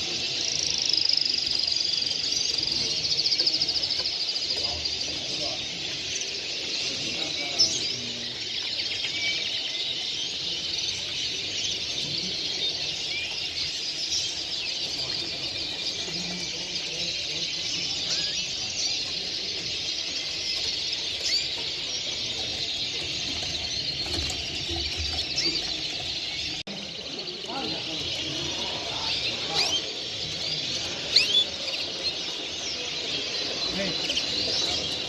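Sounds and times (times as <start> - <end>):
chorus of songbirds chirping: 0.0 - 35.0.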